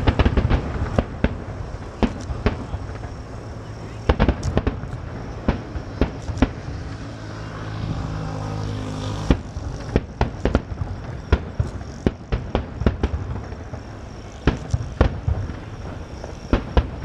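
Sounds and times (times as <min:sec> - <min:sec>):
fireworks bangs and crackles: 0:00.0 - 0:17.0
steady low hum: 0:00.0 - 0:17.0.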